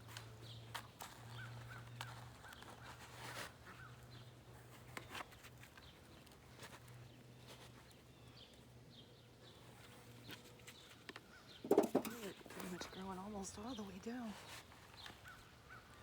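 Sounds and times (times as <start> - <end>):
faint clicks and rustles: 0.0 - 16.0.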